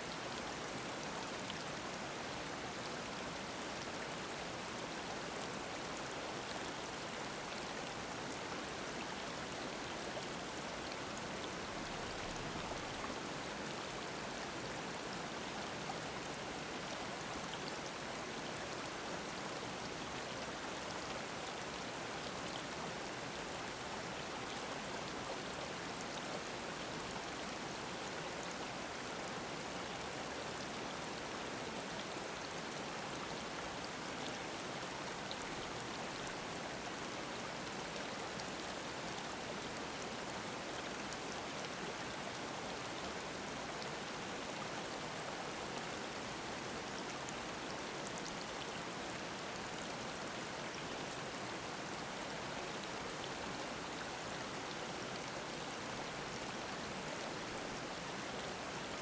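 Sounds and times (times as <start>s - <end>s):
stream babbling over rocks: 0.1s - 59.0s.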